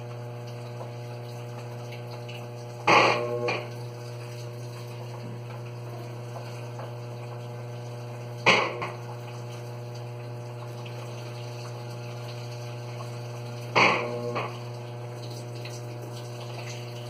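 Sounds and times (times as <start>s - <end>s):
washing machine electrical hum: 0.0s - 17.0s
water running into tub: 0.0s - 17.0s.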